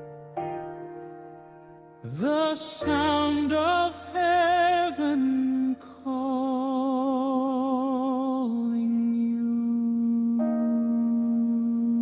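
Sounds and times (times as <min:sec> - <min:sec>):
person singing wordless notes: 0:02.0 - 0:12.0.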